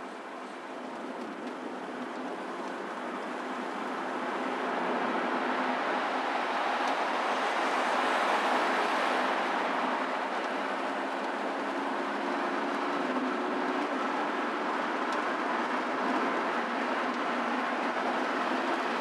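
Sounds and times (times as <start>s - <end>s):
tyre and road noise: 0.0s - 19.0s.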